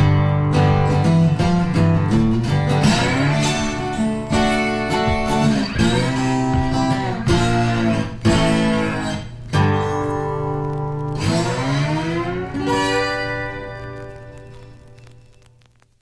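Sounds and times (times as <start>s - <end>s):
strummed acoustic guitar music: 0.0s - 15.7s.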